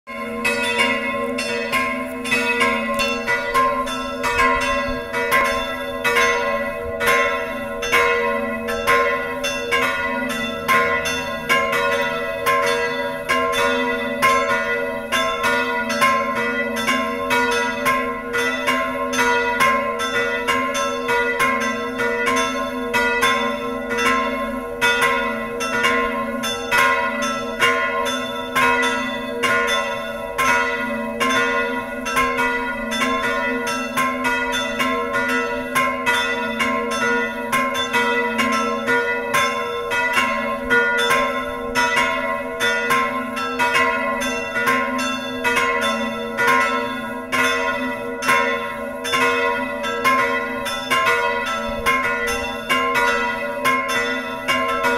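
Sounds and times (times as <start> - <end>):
church bells pealing: 0.1 - 54.9.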